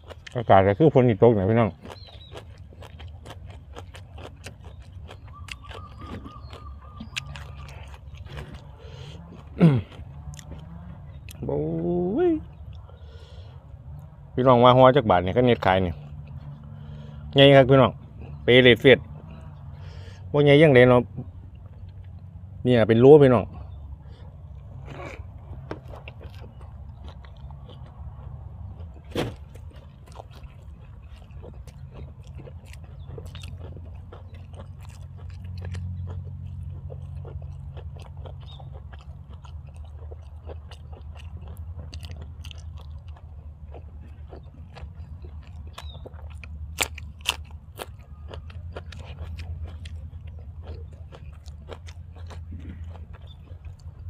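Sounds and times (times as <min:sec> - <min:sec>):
person chewing and crunching food: 0:00.0 - 0:22.6, 0:23.4 - 0:54.0.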